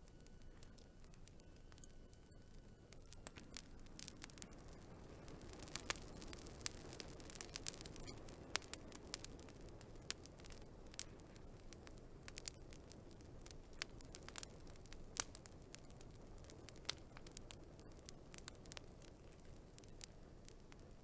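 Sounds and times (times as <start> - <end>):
low steady hiss: 0.0 - 21.0
wood fire crackling and popping: 0.0 - 21.0.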